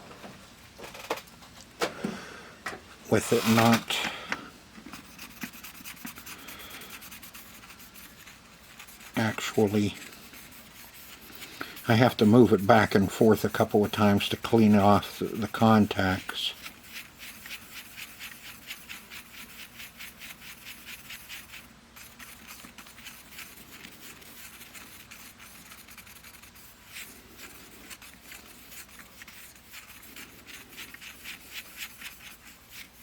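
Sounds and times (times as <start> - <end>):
pencil scrubbing metal contacts: 3.1 - 4.0, 4.9 - 33.0.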